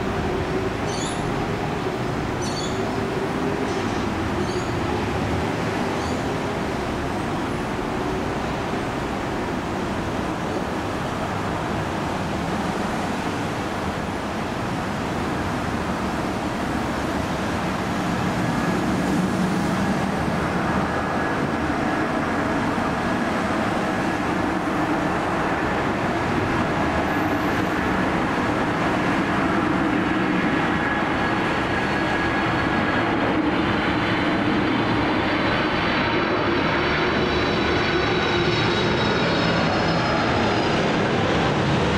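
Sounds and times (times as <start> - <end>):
high engine whine: 0.0 - 41.9
jet engines rumbling: 0.0 - 41.9.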